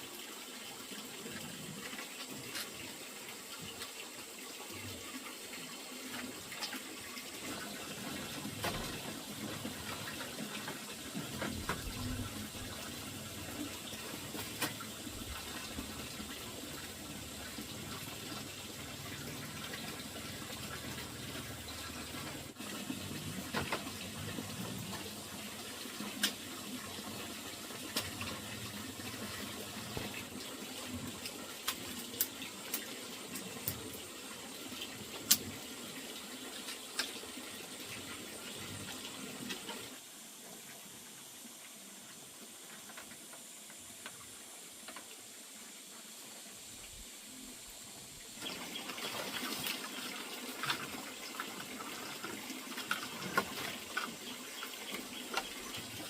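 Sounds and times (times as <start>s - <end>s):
quiet hiss: 0.0s - 56.0s
water running: 0.0s - 56.0s.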